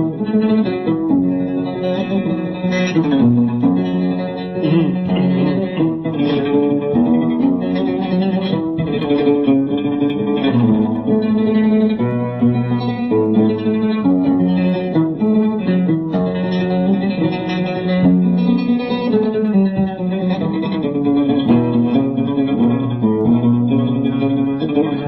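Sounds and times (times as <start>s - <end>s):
oud plucked melody: 0.0s - 25.0s.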